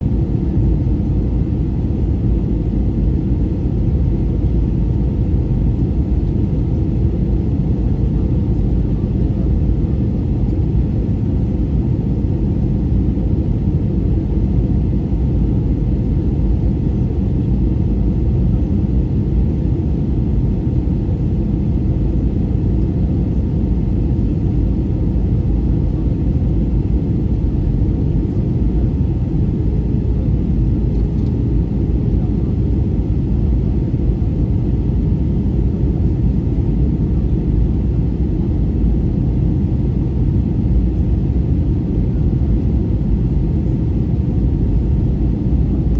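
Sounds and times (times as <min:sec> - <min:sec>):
aircraft rumble in flight: 0:00.0 - 0:45.9.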